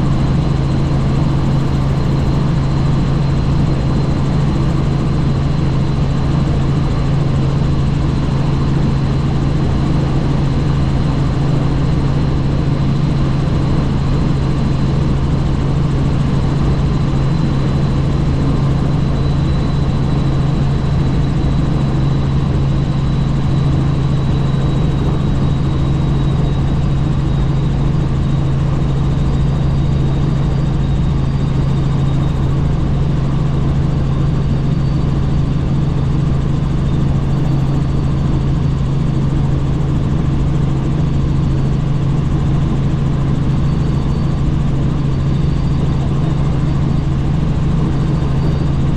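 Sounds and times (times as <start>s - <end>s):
helicopter rotor and engine drone: 0.0s - 48.9s.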